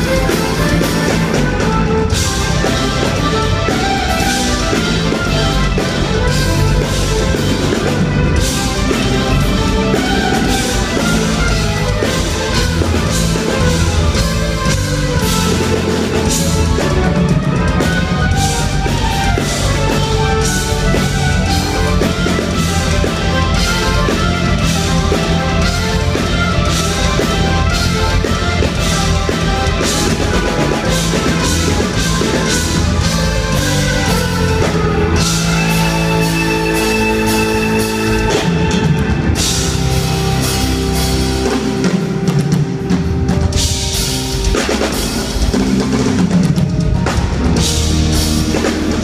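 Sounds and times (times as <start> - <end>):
live rock band playing loudly: 0.0 - 49.0.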